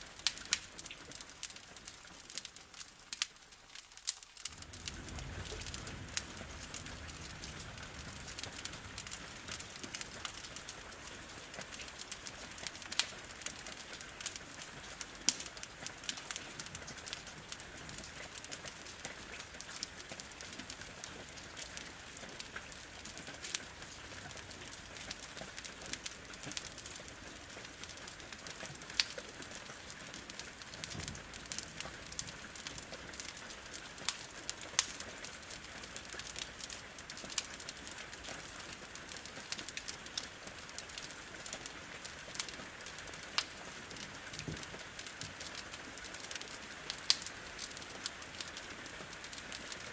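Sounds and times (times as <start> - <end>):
rain on a window: 0.0 - 49.9
wood fire crackling and popping: 0.0 - 49.9.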